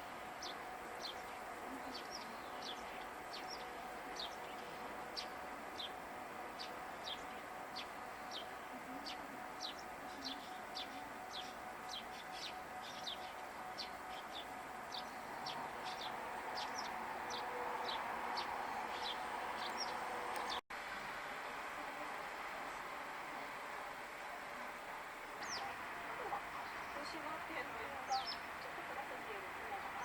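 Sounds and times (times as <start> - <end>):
songbird chirping: 0.0 - 20.6, 22.0 - 30.0.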